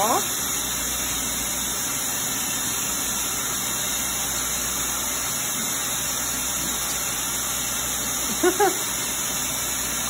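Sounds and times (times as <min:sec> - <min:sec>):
pet dryer blowing air: 0:00.0 - 0:10.0.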